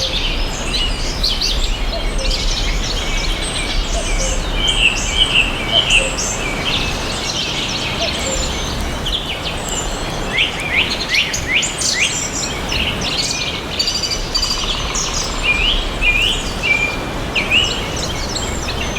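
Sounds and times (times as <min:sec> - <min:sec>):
songbirds chirping and singing: 0:00.0 - 0:18.9.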